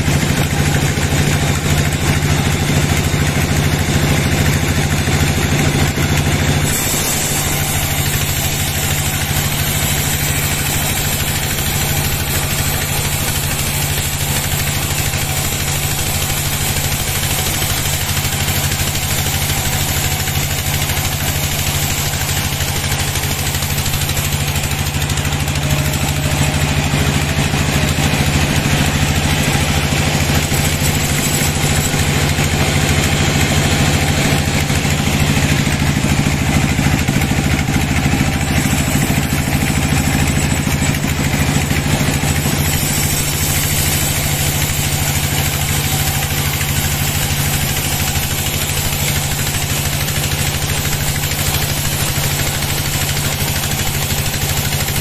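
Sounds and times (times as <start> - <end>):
bandsaw machine hum: 0.0 - 55.0
saw blade cutting log hiss: 0.0 - 55.0.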